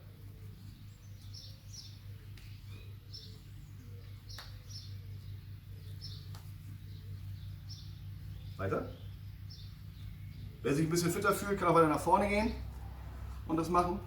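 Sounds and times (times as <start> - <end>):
faint bird chirping: 0.0 - 14.0
steady low hum: 0.0 - 14.0.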